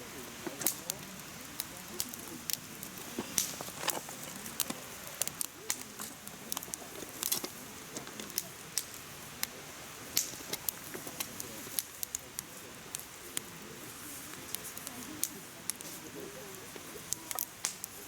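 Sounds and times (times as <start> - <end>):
hiss of flames: 0.0 - 18.0
logs crackling and popping: 0.0 - 18.0.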